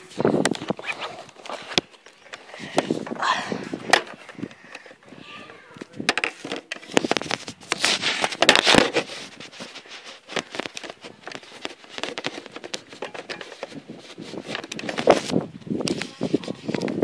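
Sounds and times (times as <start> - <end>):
phone microphone handling rustle: 0.0 - 17.0.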